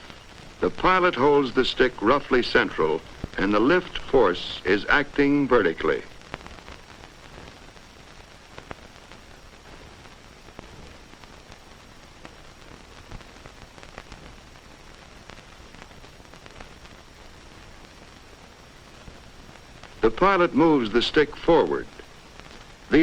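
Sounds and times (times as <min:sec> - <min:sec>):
film soundtrack hiss: 0:00.0 - 0:23.0
faint clicks and pops: 0:03.0 - 0:23.0.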